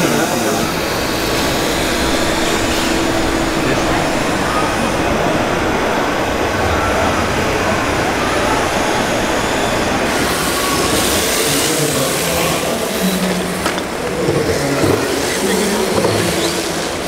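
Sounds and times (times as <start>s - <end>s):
rc car motor and tyre noise: 0.0s - 17.0s
wavering background hum: 0.0s - 17.0s.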